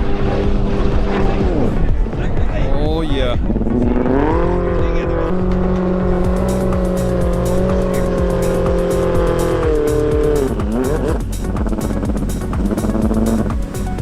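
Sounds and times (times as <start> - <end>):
jet ski engine revving: 0.0 - 14.0
music with steady beat: 0.0 - 14.0.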